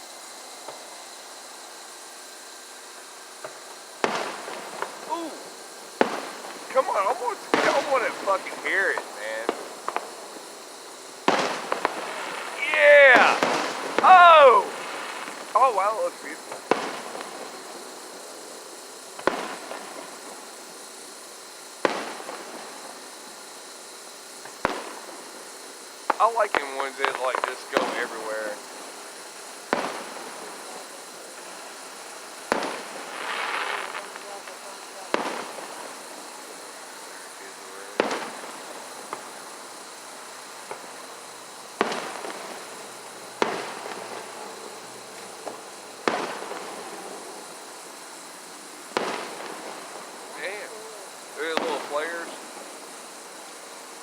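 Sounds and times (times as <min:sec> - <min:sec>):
crackling echo: 0:00.0 - 0:54.0
firework shells bursting: 0:00.0 - 0:54.0.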